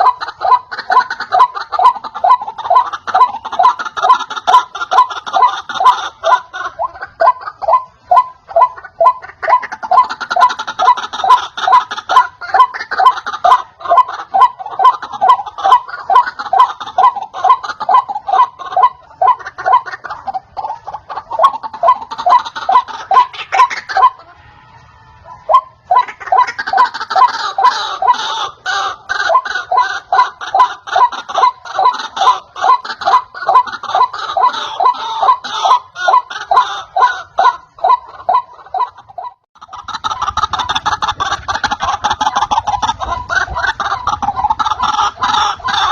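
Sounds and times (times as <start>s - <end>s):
waterhen calling: 0.0s - 45.9s.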